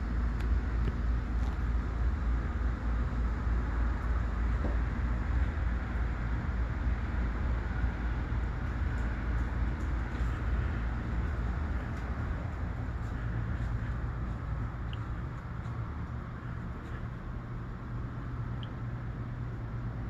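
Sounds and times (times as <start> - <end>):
low engine-like hum: 0.0 - 20.0.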